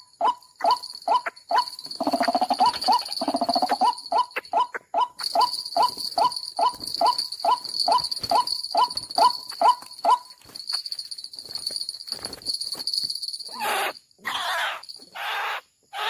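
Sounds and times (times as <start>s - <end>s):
cricket trilling: 0.0s - 16.0s.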